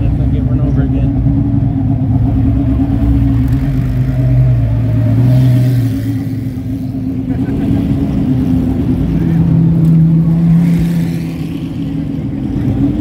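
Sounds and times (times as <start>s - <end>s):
race car engines at low revs: 0.0s - 13.0s.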